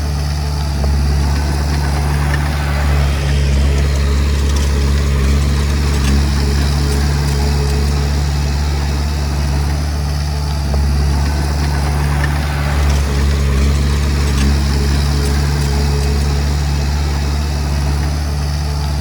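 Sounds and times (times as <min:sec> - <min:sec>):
bulldozer diesel engine humming: 0:00.0 - 0:19.0.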